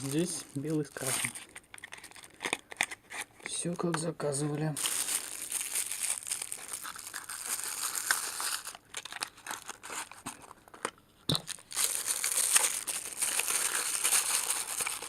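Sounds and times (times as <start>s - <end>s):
plastic packaging crinkling: 0.0s - 3.6s, 4.7s - 15.0s.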